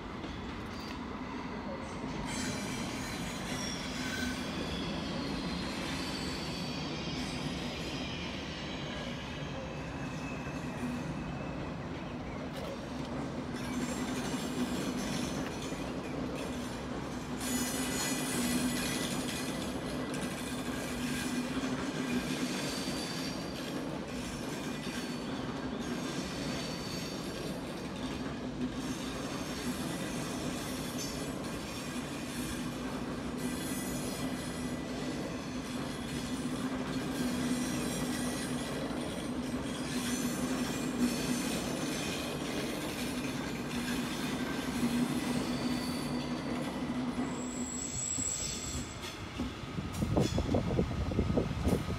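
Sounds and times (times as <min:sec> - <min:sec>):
train rumbling: 0:00.0 - 0:51.9
steel wheels squealing: 0:00.2 - 0:51.9.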